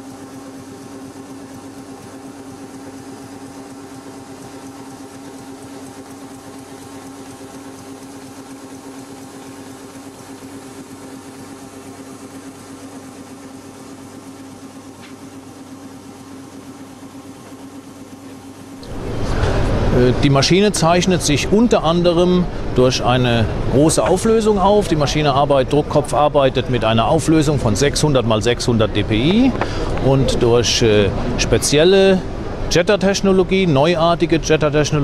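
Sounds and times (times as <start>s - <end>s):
printing machine hum and clatter: 0.0s - 35.0s.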